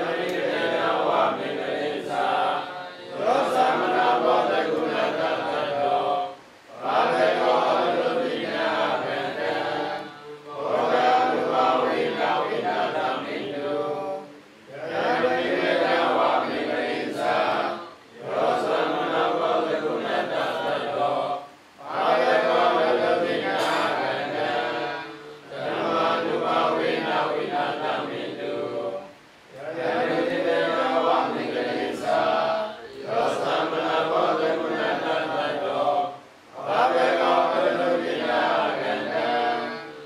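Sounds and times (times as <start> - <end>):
monks chanting in unison: 0.0 - 40.0.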